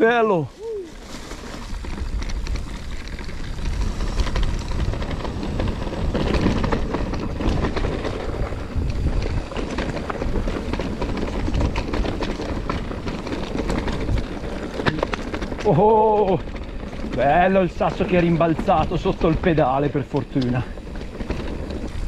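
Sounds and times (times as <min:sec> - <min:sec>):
bike rattling over stones: 0:00.0 - 0:22.0
wind rumbling on microphone: 0:00.0 - 0:22.0.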